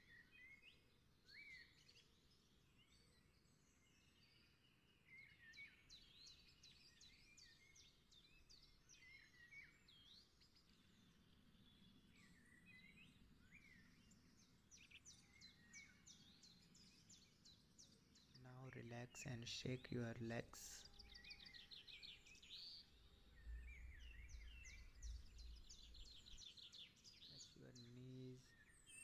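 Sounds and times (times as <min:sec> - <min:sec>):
birds chirping: 0:01.4 - 0:29.0.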